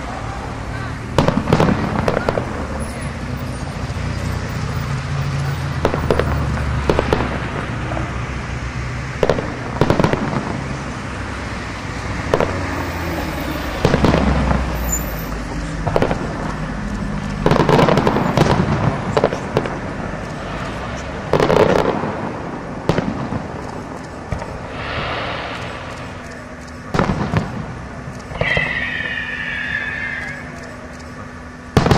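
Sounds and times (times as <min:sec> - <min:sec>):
fireworks bangs: 0:00.4 - 0:30.9.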